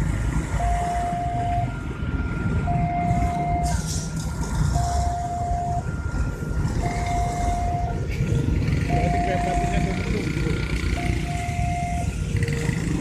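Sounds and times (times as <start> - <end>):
truck engine rumbling: 0.0 - 13.0
electronic warning beep: 0.5 - 13.0.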